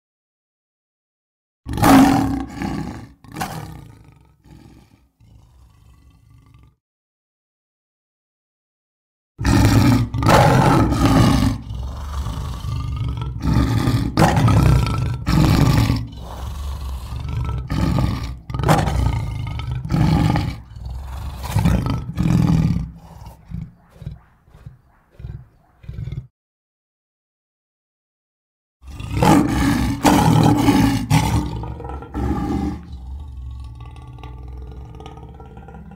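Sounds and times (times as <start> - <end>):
cartoon cougar roaring: 1.7 - 6.8, 9.4 - 26.3, 28.8 - 35.9.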